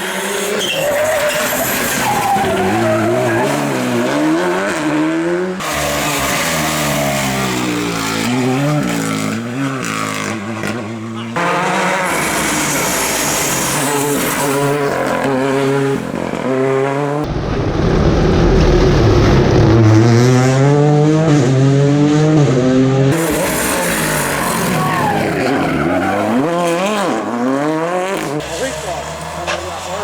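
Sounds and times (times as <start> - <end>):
rally cars accelerating hard: 0.0 - 30.0.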